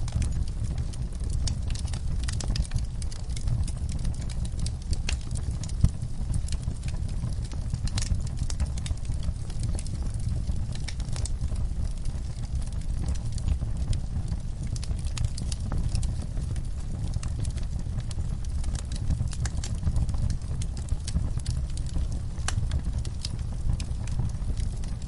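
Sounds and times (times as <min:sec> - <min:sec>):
fire crackles and pops: 0:00.0 - 0:25.0
wood fire rumbling: 0:00.0 - 0:25.0.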